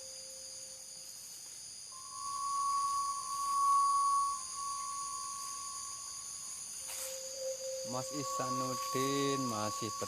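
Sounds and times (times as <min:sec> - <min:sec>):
steady high pure tone: 0:00.0 - 0:01.0, 0:01.9 - 0:10.0
night insects chirring: 0:00.0 - 0:10.0.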